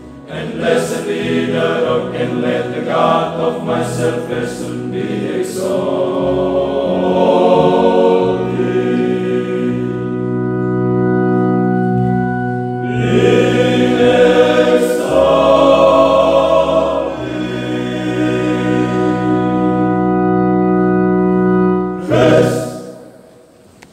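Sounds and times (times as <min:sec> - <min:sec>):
male choir singing in harmony: 0:00.0 - 0:10.4, 0:12.8 - 0:20.3, 0:21.8 - 0:23.4.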